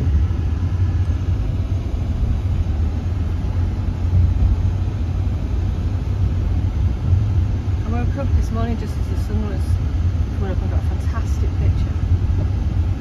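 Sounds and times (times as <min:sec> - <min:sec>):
car engine rumble: 0:00.0 - 0:13.0
tyres on the road: 0:00.0 - 0:13.0.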